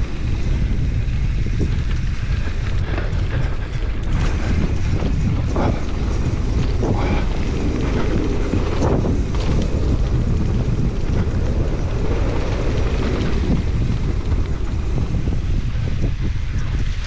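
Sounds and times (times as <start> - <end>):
mountain bike rolling on dirt trail: 0.0 - 17.0
wind buffeting microphone: 0.0 - 17.0.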